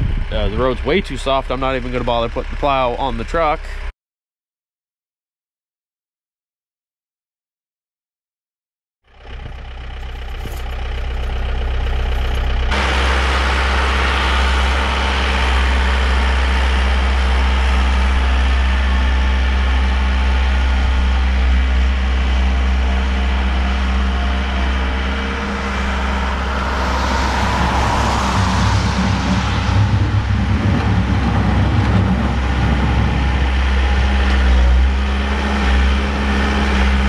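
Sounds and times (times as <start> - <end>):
vehicle engine humming: 0.0 - 3.9, 9.1 - 37.0.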